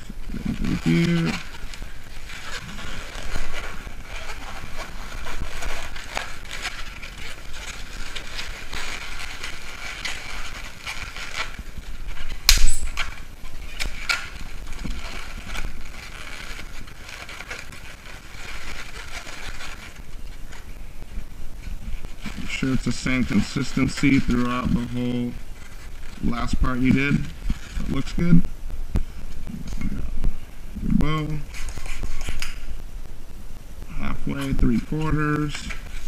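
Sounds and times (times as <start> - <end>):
balloons squeaking and rubbing: 0.0 - 32.8, 33.8 - 36.0.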